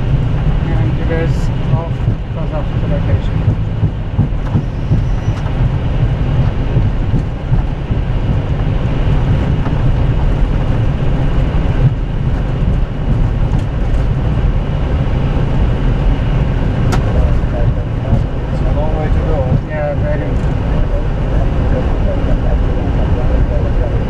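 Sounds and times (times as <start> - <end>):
aircraft wheels rolling on runway: 0.0 - 24.0.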